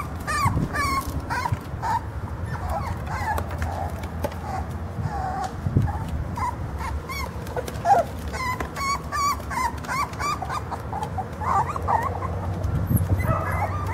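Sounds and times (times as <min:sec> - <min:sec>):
puppies whimpering: 0:00.0 - 0:13.9.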